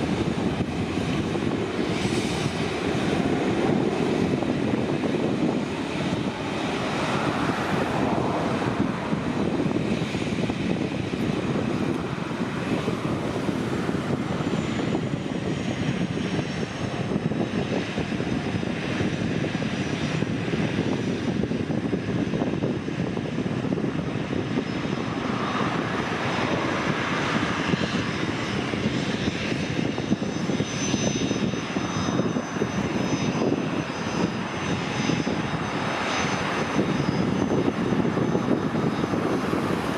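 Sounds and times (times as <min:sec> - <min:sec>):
high engine whine: 0:00.0 - 0:39.9
jet engines rushing: 0:00.0 - 0:39.9.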